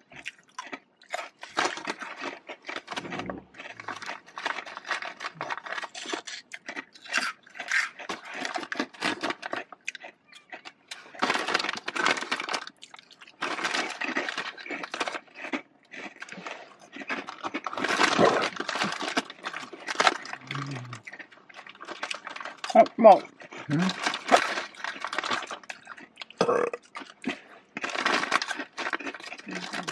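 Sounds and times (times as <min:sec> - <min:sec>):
crisps being chewed: 0:00.0 - 0:29.9.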